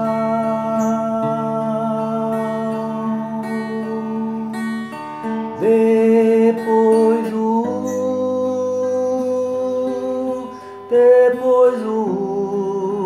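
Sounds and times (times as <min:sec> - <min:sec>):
plucked string chords: 0:00.0 - 0:13.0.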